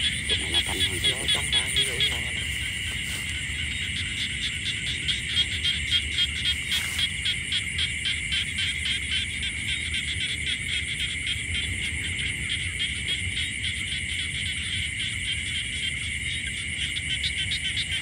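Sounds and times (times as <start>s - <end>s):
high-pitched insect drone: 0.0s - 18.0s
rapid animal calls: 0.0s - 18.0s.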